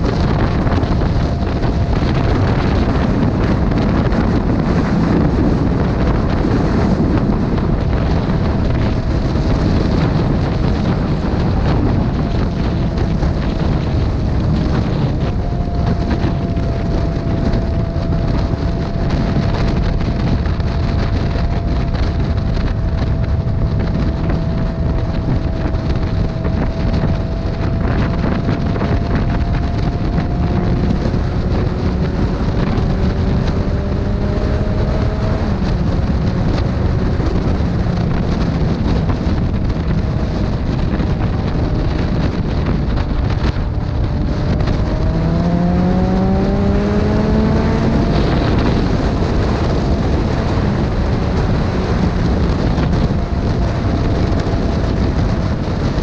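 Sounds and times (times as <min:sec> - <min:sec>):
motorcycle engine: 0:00.0 - 0:56.0
wind rushing over the microphone: 0:00.0 - 0:56.0.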